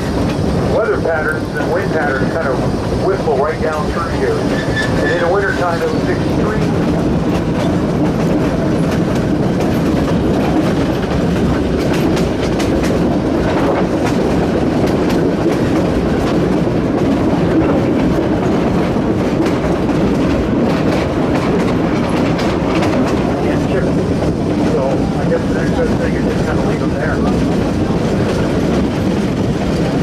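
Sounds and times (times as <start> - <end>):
train rumbling along track: 0.0 - 30.0
wheels clicking over rails: 0.0 - 30.0.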